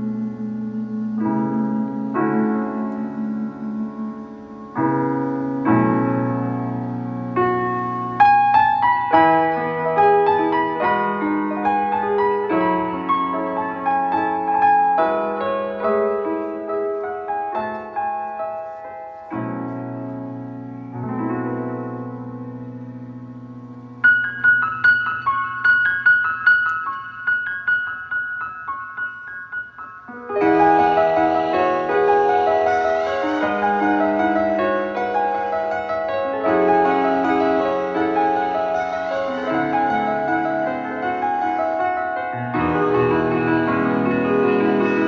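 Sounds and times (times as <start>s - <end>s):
slow piano chords: 0.0s - 45.0s.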